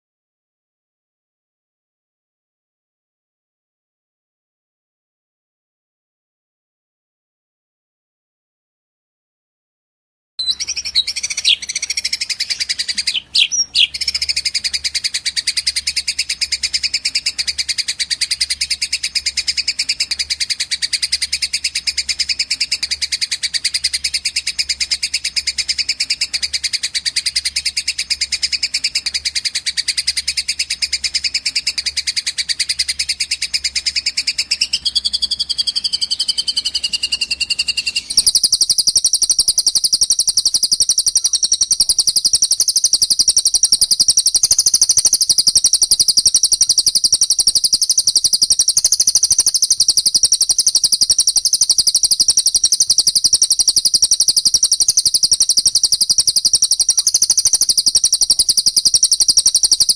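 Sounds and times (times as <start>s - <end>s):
bird rapid high trill: 10.4s - 59.9s.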